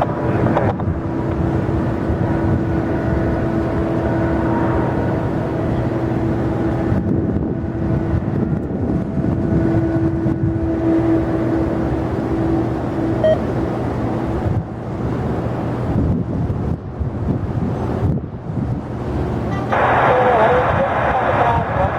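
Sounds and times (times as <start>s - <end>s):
jet engines rumbling drone: 0.0s - 21.9s.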